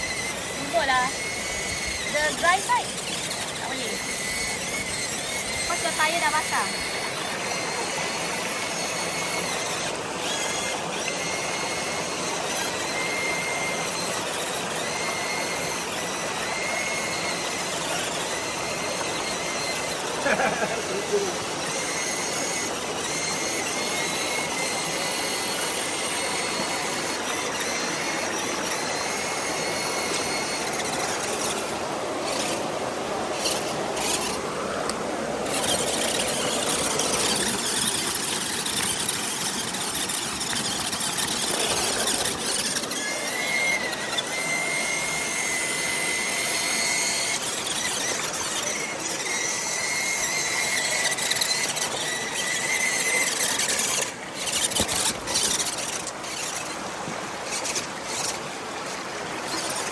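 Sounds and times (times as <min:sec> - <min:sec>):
amphibious vehicle mechanical din: 0:00.0 - 0:56.8
high-pitched squealing whines: 0:00.0 - 0:59.9.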